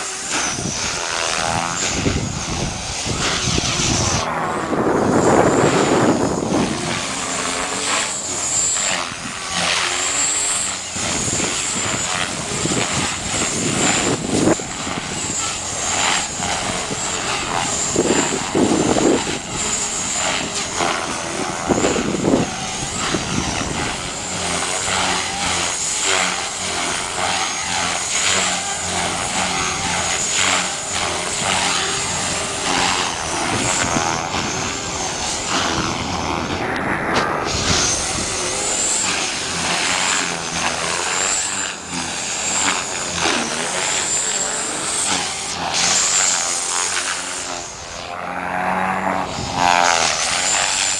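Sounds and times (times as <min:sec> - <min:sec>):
helicopter motor whine: 0:00.0 - 0:50.9
rotor blades rushing: 0:00.0 - 0:50.9.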